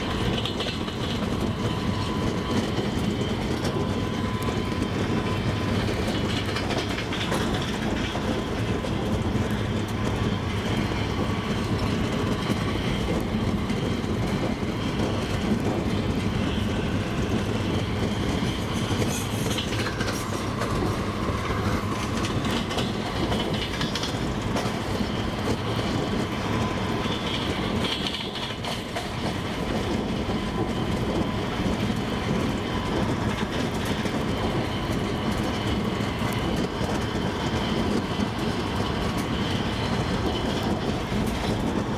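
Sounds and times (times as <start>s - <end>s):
train rumble: 0.0s - 41.9s
train wheels clicking over rail joints: 0.0s - 41.9s.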